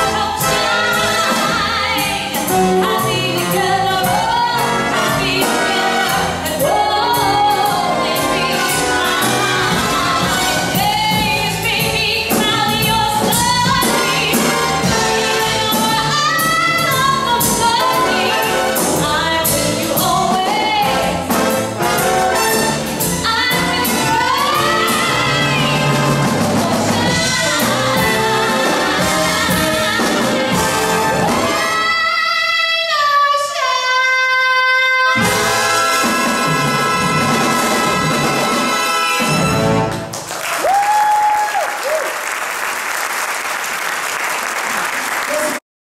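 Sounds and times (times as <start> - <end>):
symphony orchestra playing: 0.0 - 32.2, 35.1 - 40.2.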